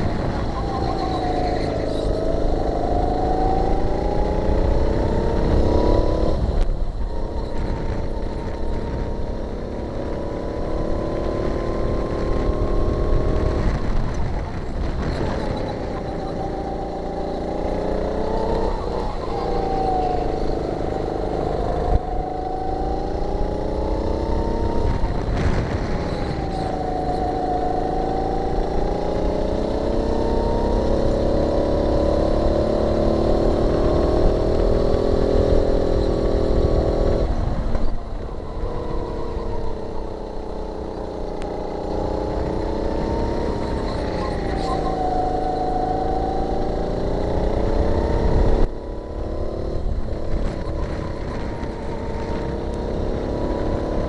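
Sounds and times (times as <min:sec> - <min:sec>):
kart engine racing: 0:00.0 - 0:54.0
rumbling wind: 0:00.0 - 0:54.0.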